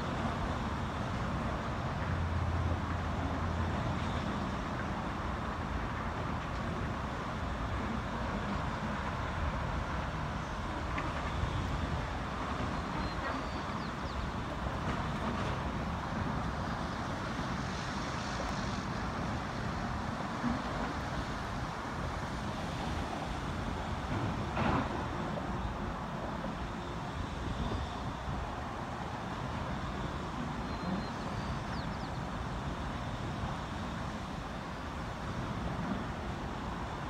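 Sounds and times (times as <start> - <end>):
road traffic hum: 0.0 - 37.0.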